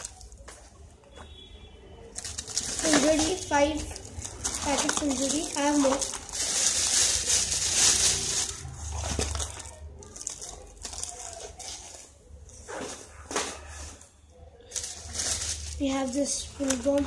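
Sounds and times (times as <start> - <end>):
cardboard packets rustling: 2.0 - 14.0, 14.6 - 17.0.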